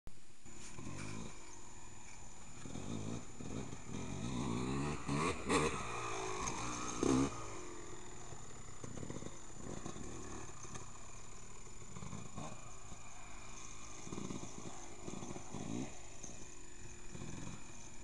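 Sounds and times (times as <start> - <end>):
dirt bike engine revving: 0.5 - 18.0.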